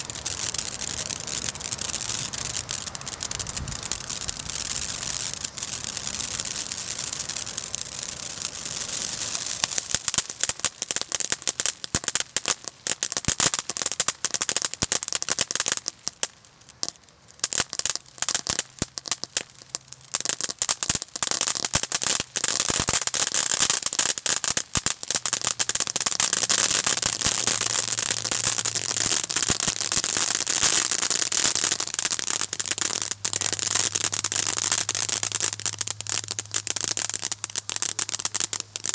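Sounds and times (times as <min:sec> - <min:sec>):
firework crackling and hissing: 0:00.0 - 0:38.9.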